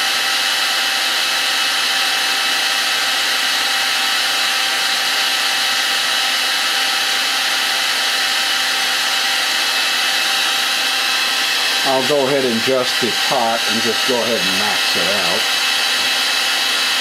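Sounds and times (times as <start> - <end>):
heat gun blowing hot air: 0.0 - 17.0.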